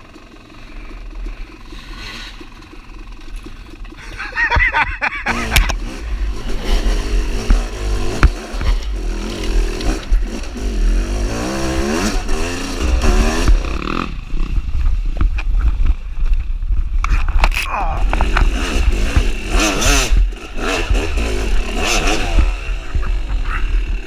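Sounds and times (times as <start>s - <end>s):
dirt bike engine revving: 0.0s - 15.2s, 17.7s - 24.0s.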